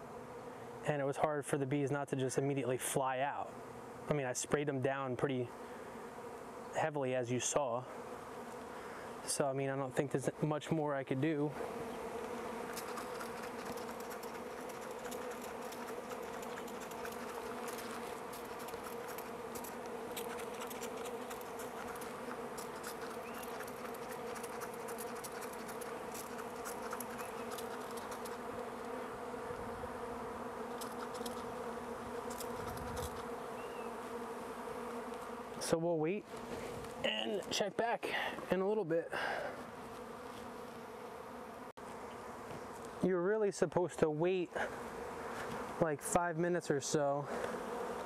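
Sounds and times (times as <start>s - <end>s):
honeybees buzzing: 0.0s - 48.0s.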